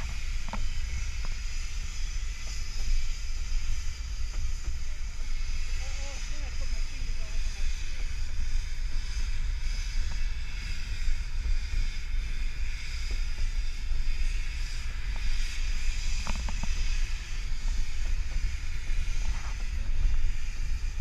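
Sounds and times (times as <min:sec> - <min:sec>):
train rolling on track: 0:00.0 - 0:21.0
wind buffeting microphone: 0:00.0 - 0:21.0.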